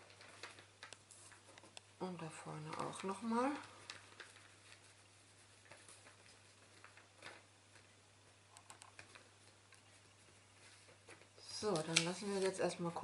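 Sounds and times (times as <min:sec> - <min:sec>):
faint paper handling clicks: 0:00.0 - 0:13.0
low steady hum: 0:00.0 - 0:13.0.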